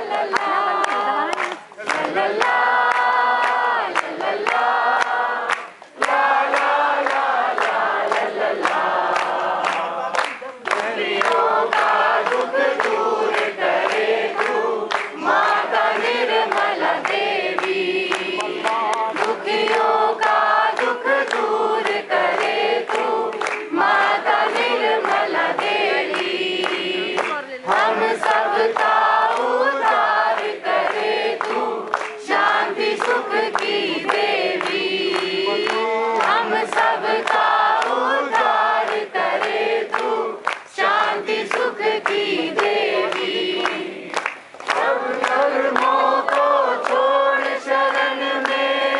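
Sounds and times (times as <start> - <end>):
group singing devotional song: 0.0 - 48.9.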